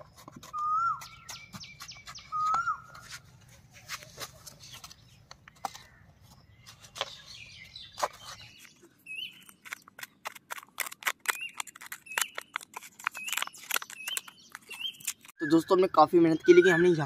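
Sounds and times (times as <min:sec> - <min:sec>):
hand tool scraping stony soil: 0:00.0 - 0:05.0, 0:05.6 - 0:15.4
bird chirping: 0:00.0 - 0:10.4, 0:11.2 - 0:17.0.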